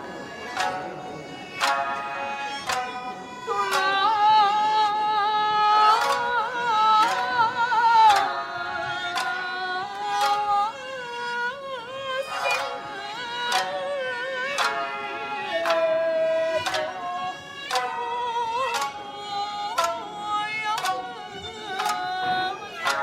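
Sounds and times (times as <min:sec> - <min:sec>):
plucked string notes: 0:00.0 - 0:23.0.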